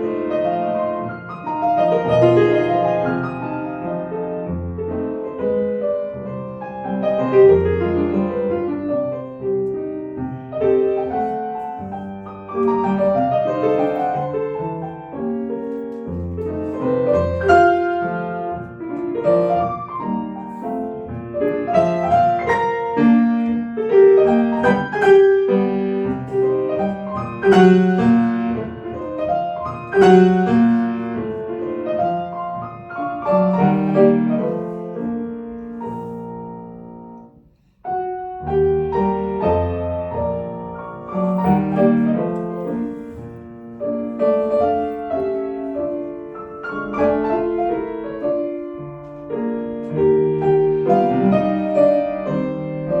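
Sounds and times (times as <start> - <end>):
solo classical piano: 0.0 - 53.0.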